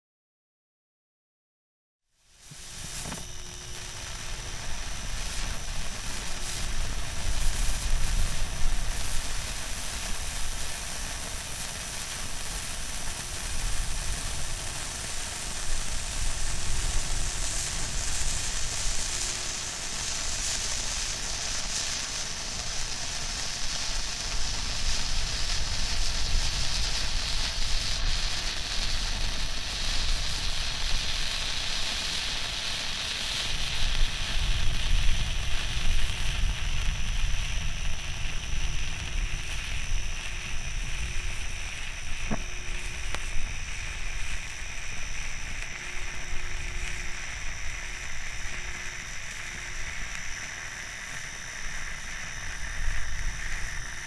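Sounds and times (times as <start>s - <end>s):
fountain firework hissing: 2.1s - 54.0s.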